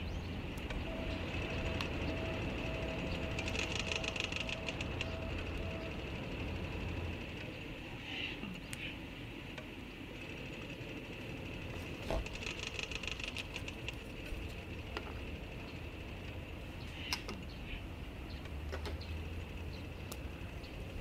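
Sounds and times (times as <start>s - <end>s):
steady high-pitched hum: 0.0s - 18.4s.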